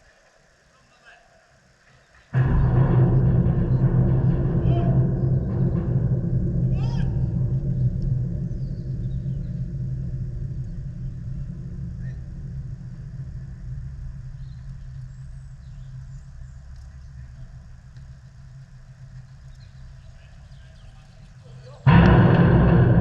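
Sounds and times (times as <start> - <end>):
low steady rumble with hum: 2.4 - 23.0.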